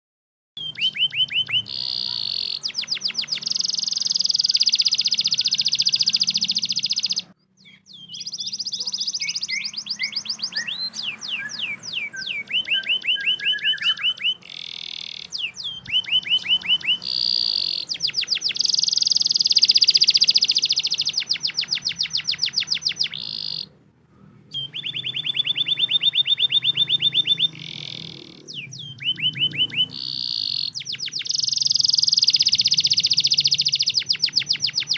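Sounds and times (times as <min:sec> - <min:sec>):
canary singing trills: 0:00.6 - 0:34.9.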